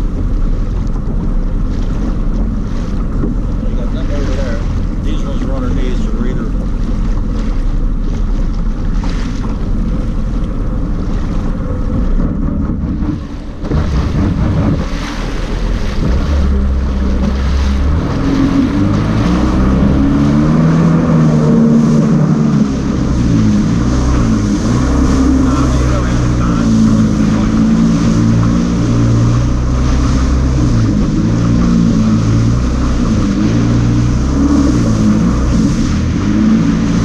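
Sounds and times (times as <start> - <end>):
water splashing at hull: 0.0 - 37.0
watercraft engine revving: 0.0 - 37.0
wind buffeting microphone: 0.0 - 37.0.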